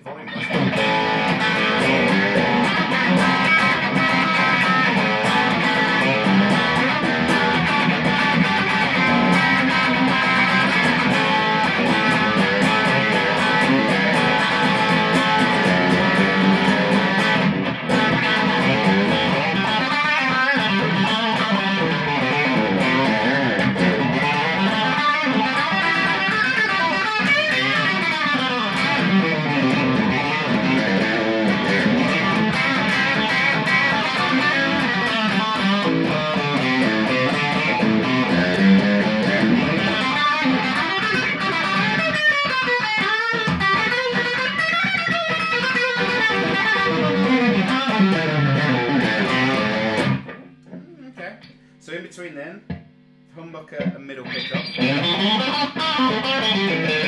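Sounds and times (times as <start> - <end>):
overdriven electric guitar: 0.0 - 51.8, 52.6 - 57.0.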